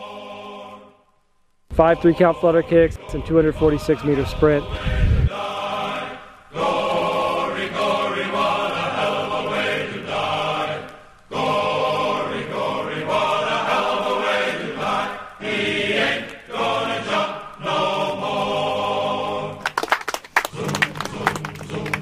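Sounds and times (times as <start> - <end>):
choir singing: 0.0 - 1.1, 1.7 - 19.7, 20.5 - 22.0.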